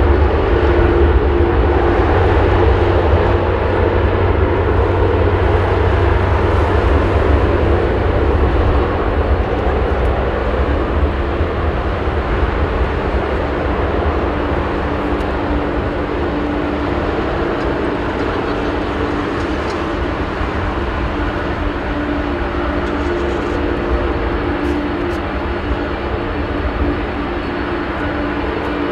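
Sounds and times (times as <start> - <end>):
jet engines at takeoff thrust: 0.0 - 28.9.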